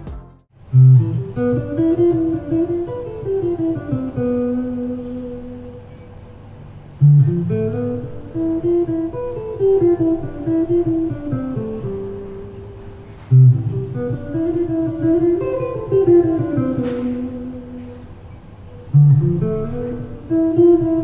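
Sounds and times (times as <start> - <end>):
guitar music: 0.0 - 21.0.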